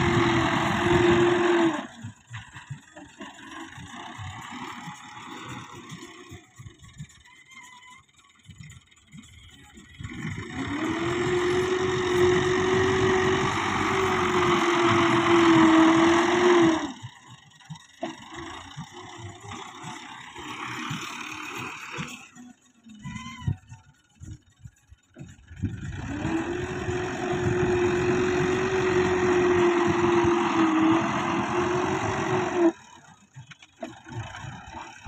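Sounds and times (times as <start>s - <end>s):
tractor diesel engine revving: 0.0s - 35.0s.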